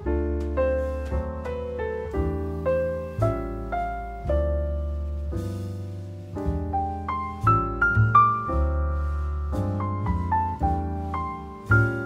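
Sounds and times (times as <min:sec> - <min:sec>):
soft solo piano music: 0:00.0 - 0:12.0.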